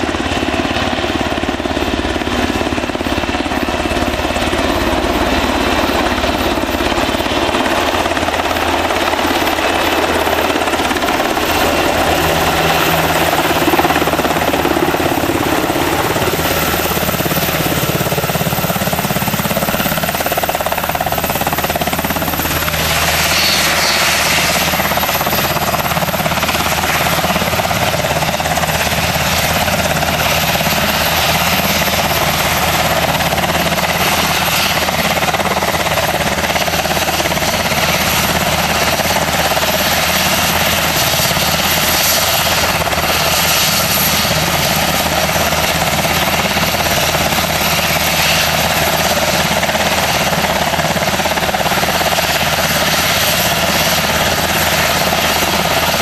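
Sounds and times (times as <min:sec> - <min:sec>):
helicopter engine and rotor whine: 0:00.0 - 0:56.0.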